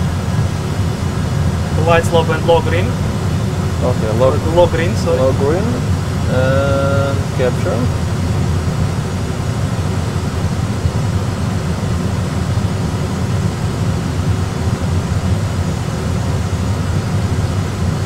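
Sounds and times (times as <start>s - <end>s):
airflow: 0.0s - 17.8s
aircraft cockpit engine rumble: 0.0s - 18.0s.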